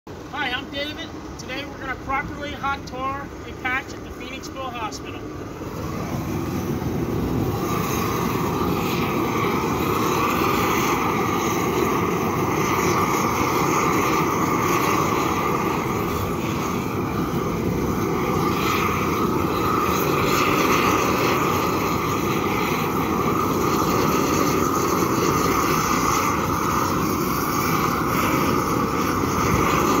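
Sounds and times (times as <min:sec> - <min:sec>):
propane torch flame rushing: 0:00.1 - 0:30.0.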